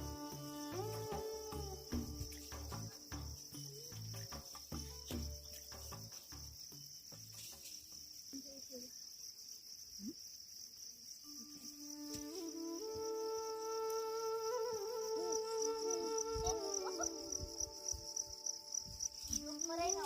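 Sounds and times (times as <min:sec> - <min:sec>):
low music notes: 0:00.0 - 0:07.5, 0:11.3 - 0:20.0
held music tones: 0:00.0 - 0:07.6, 0:11.3 - 0:20.0
high-pitched insect chirring: 0:00.0 - 0:20.0.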